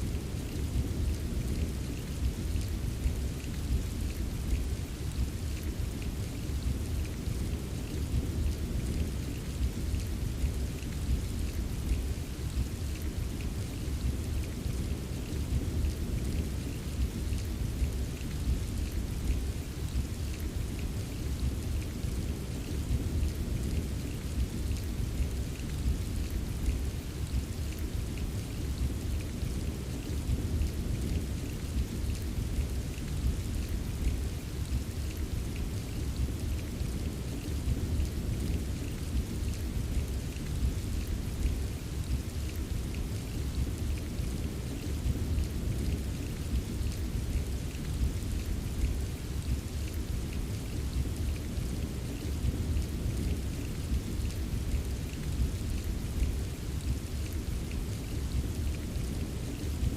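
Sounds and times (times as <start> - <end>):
rain pattering: 0.0 - 59.9
low rumble of thunder: 0.1 - 59.9.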